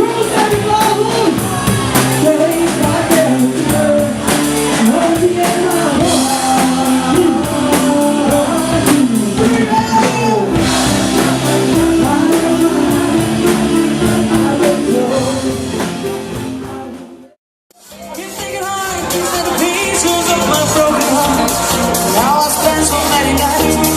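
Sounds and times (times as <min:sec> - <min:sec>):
music: 0:00.0 - 0:23.9
rock song with singing: 0:00.0 - 0:23.9.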